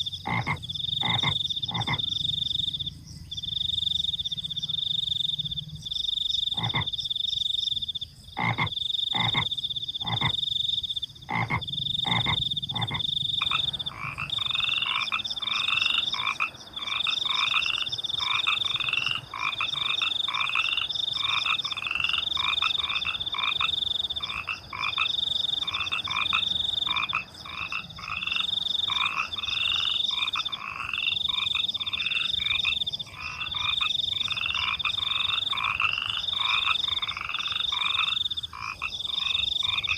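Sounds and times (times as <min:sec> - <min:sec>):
crickets trilling: 0:00.0 - 0:39.9
frogs croaking: 0:00.0 - 0:39.9.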